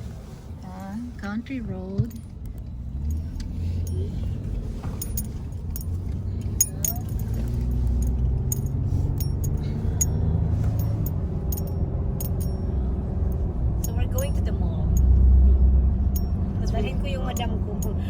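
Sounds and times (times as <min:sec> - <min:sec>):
road and engine rumble: 0:00.0 - 0:18.0
light clinks and rattles: 0:02.0 - 0:15.4, 0:16.1 - 0:18.0.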